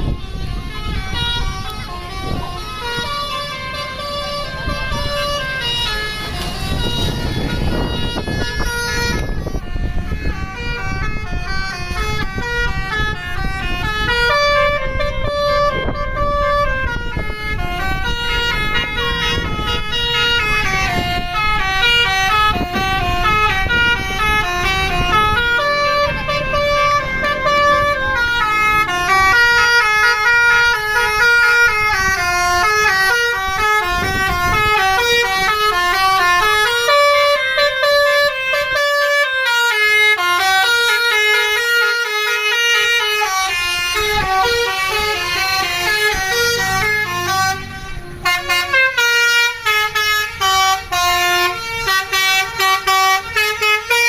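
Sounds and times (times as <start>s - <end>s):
multi-tone bus air horn melody: 0.0s - 54.0s.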